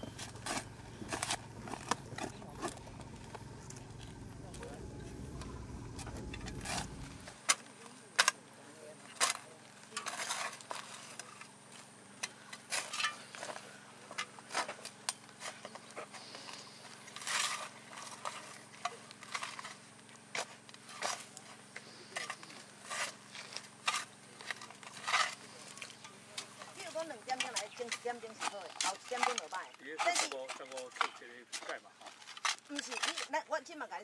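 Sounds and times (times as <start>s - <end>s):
spades scraping earth: 0.0s - 8.4s, 9.1s - 33.4s.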